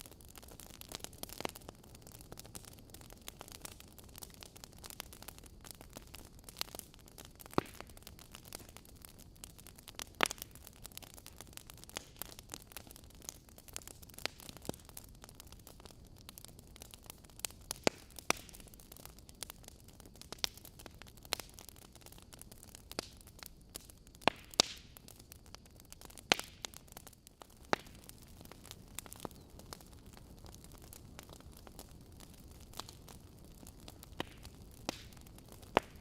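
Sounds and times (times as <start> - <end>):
burning logs popping: 0.0 - 36.0
wood fire crackling: 0.0 - 36.0.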